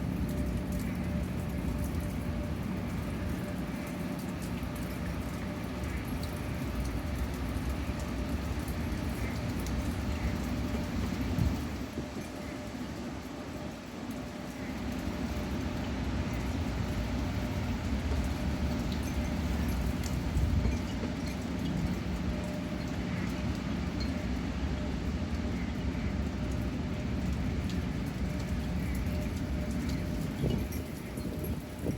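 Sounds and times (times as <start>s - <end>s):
light rain pattering: 0.0s - 31.9s.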